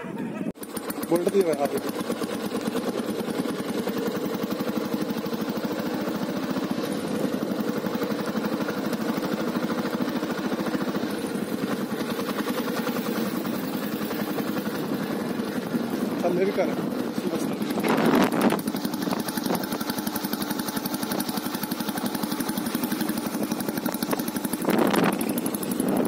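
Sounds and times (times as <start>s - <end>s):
motorcycle engine running: 0.1s - 26.0s.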